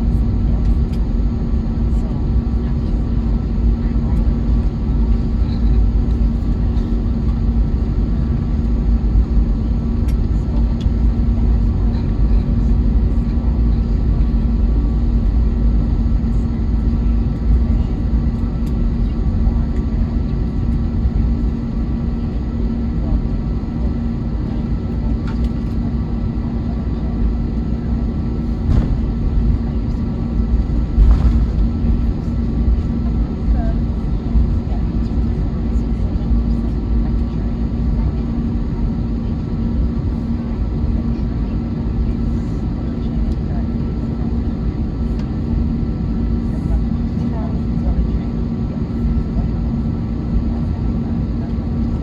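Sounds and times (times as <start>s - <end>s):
constant hum: 0.0s - 52.0s
jet engine cabin rumble: 0.0s - 52.0s.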